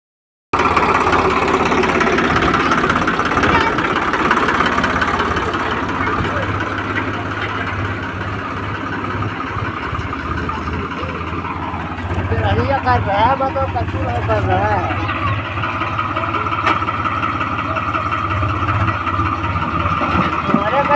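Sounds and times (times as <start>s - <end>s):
diesel engine idling: 0.6s - 20.9s
faint voices talking: 0.7s - 20.9s.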